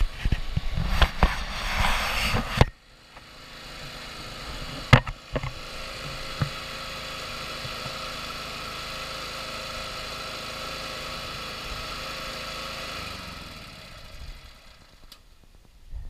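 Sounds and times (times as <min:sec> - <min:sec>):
lawn mower engine idling: 0:00.0 - 0:15.8.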